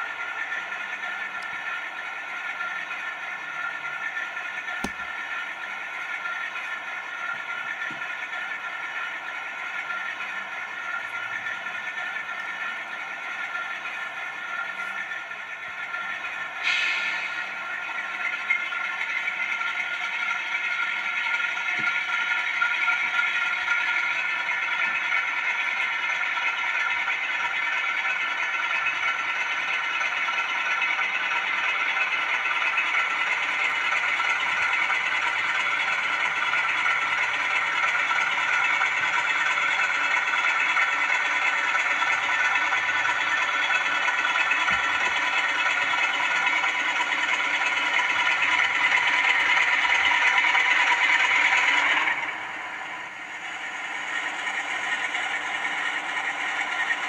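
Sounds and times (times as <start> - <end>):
model locomotive diesel engine sound: 0.0 - 57.0.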